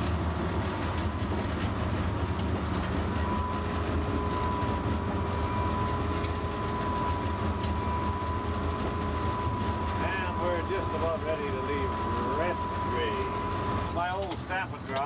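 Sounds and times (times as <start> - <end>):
locomotive engine rumble: 0.0 - 15.0
wheels on rail: 0.0 - 15.0
steady high whine: 2.4 - 15.0.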